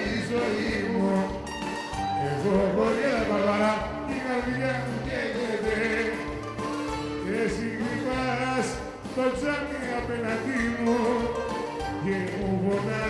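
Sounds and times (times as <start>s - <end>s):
bass notes: 0.0s - 13.0s
live band playing: 0.0s - 13.0s
man singing: 0.0s - 13.0s.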